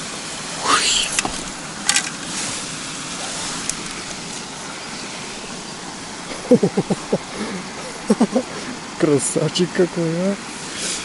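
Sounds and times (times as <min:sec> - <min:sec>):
forest stream flowing: 0:00.0 - 0:11.0.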